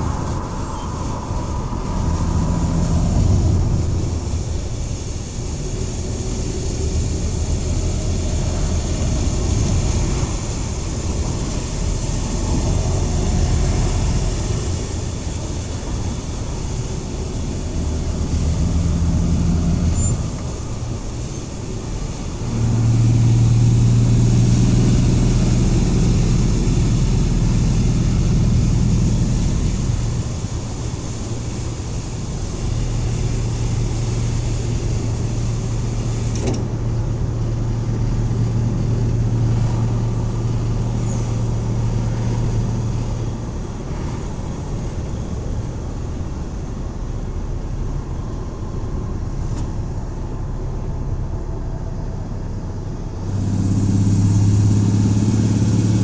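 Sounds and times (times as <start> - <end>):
van engine and road noise: 0.0 - 56.0.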